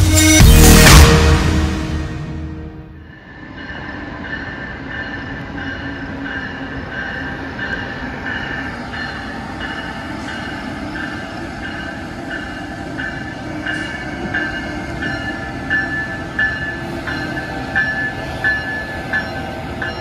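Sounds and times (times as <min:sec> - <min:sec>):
passenger train running: 0:00.0 - 0:20.0.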